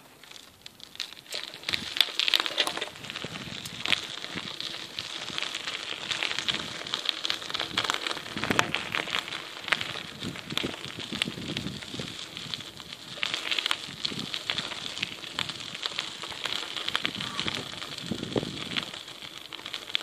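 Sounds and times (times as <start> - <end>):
footsteps on gravel: 0.0 - 20.0.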